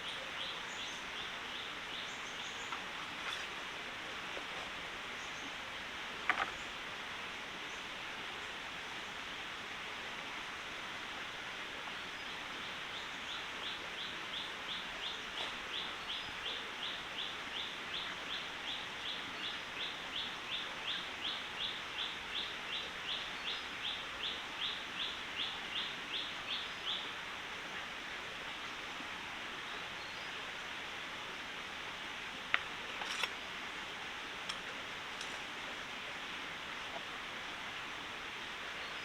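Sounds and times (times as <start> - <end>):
forest stream rushing: 0.0 - 39.0.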